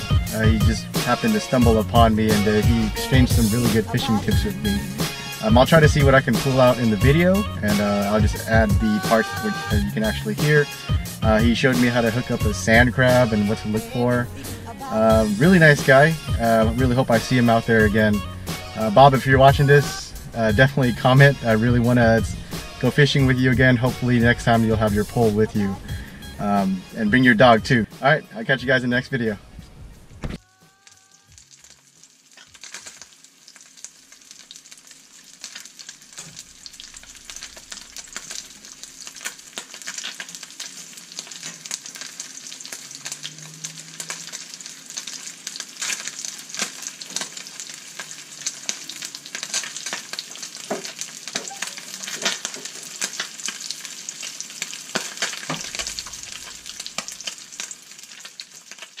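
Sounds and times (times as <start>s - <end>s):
fish sizzling in pan: 0.0s - 27.0s, 30.3s - 59.0s.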